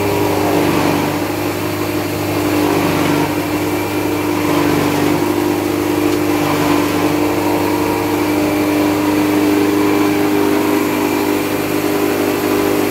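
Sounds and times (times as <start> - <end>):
small engine running steadily: 0.0 - 12.9.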